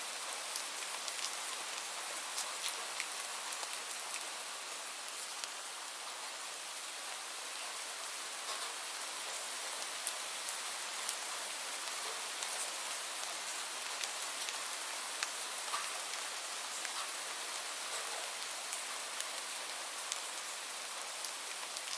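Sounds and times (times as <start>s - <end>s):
steady rain hiss: 0.0s - 21.9s
raindrops ticking nearby: 0.2s - 5.6s, 8.5s - 21.9s.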